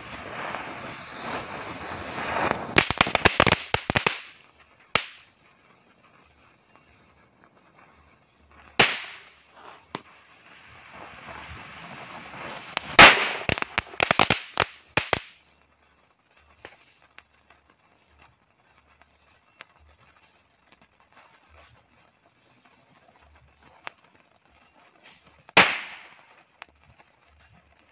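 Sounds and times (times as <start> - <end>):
firecrackers banging: 0.0 - 15.4, 18.8 - 27.9
burning fuse hiss: 0.0 - 27.9
faint crackles: 0.0 - 27.9.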